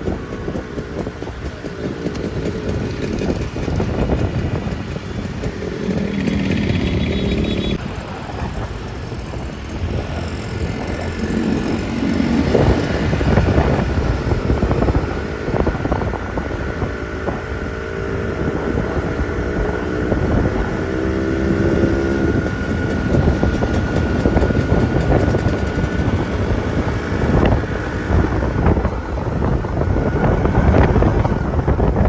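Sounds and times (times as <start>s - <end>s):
two-stroke motorcycle engine: 0.0s - 32.0s
wind buffeting microphone: 0.0s - 32.0s.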